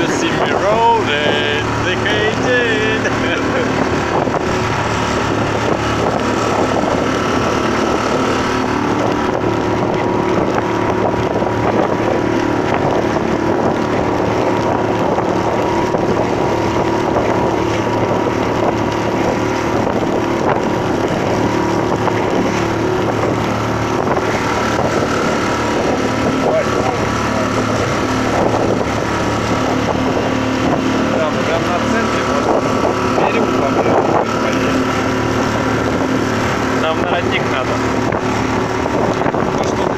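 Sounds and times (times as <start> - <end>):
outboard motor running: 0.0 - 39.9
water splashing against hull: 0.0 - 39.9
wind buffeting microphone: 0.0 - 39.9.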